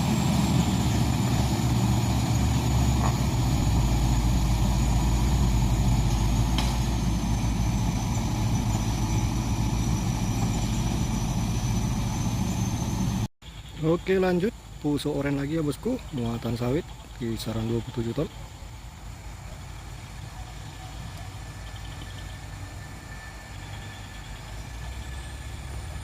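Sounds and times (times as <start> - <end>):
diesel engine rumbling: 0.0 - 26.0
high whine: 0.0 - 26.0.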